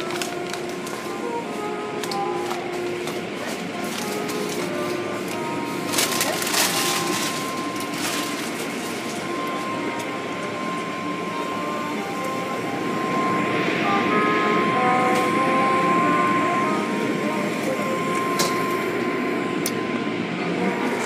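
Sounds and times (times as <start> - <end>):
steady machine whine: 0.0 - 21.0.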